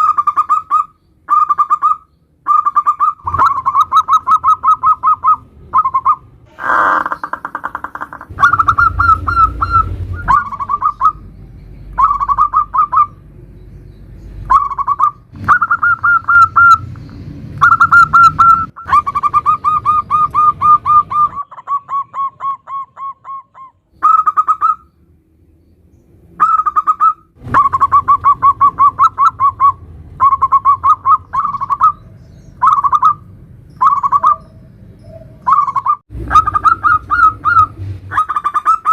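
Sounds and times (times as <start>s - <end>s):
dove cooing: 0.0s - 11.2s, 12.0s - 13.2s, 14.5s - 16.9s, 17.6s - 24.8s, 26.4s - 38.9s.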